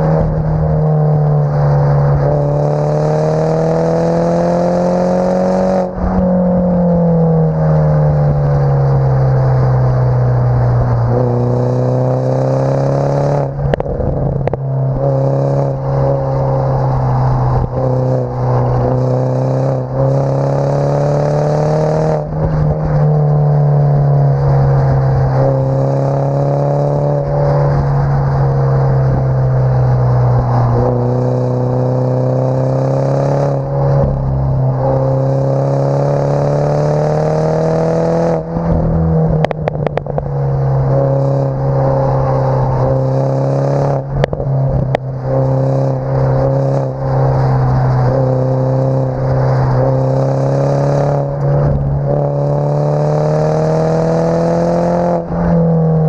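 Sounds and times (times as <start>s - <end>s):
car exhaust while driving: 0.0s - 56.0s.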